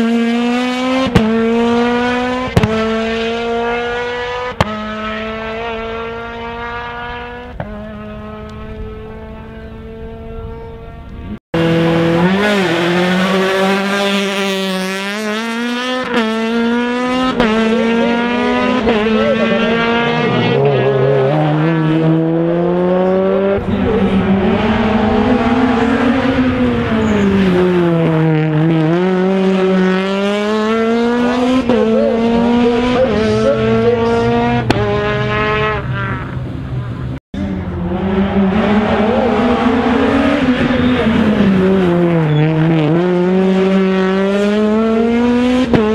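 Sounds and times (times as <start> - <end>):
car engine revving and shifting: 0.0 - 45.9.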